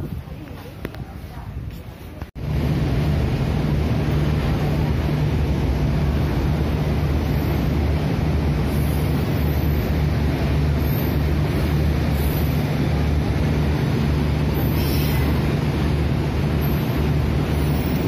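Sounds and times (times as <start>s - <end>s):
train rolling low rumble: 0.0s - 18.0s.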